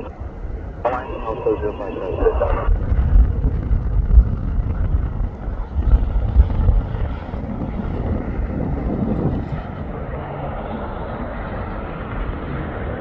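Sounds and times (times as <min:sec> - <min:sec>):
jet airliner rumble: 0:00.0 - 0:13.0
wind buffeting microphone: 0:00.0 - 0:13.0.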